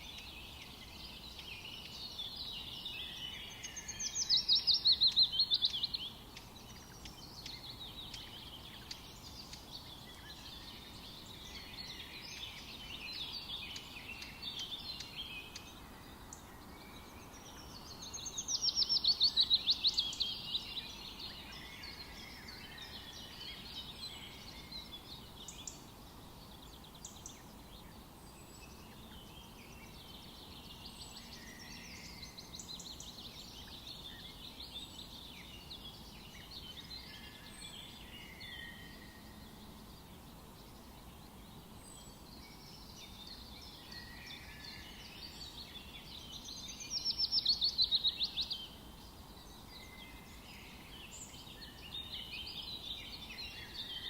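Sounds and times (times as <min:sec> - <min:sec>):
faint forest background noise: 0:00.0 - 0:54.0
wild birds singing and calling: 0:00.0 - 0:54.0.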